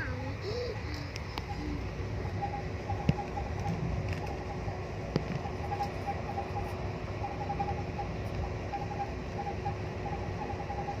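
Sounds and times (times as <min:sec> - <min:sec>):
constant hum: 0:00.0 - 0:11.0
train rumble: 0:00.0 - 0:11.0.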